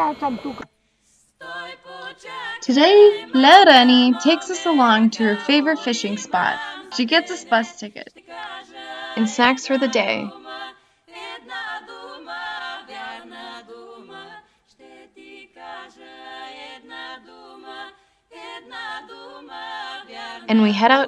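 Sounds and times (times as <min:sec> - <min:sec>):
a cappella vocal harmony: 0:01.0 - 0:21.0.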